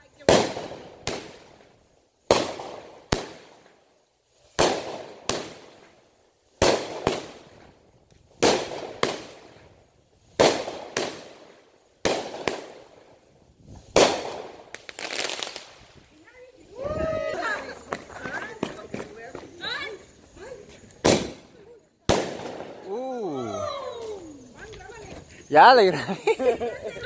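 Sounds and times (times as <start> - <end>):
fireworks bangs: 0.0 - 3.9, 4.5 - 26.0
fireworks crackle: 0.0 - 27.0.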